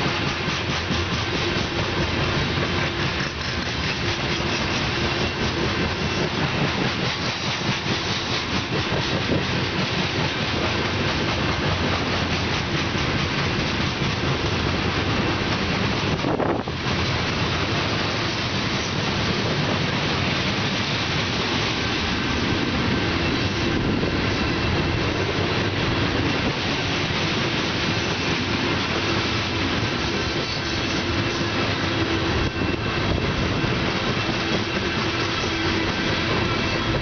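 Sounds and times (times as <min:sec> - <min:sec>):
freight train wheels clattering: 0:00.0 - 0:37.0.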